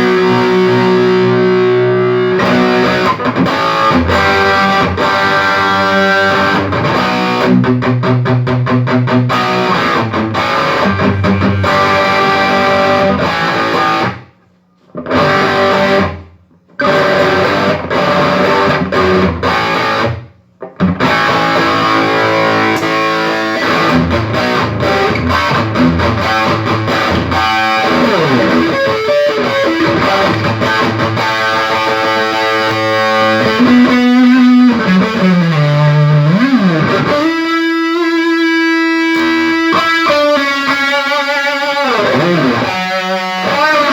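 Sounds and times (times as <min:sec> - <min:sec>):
electric guitar riffs and chords: 0:00.0 - 0:43.9.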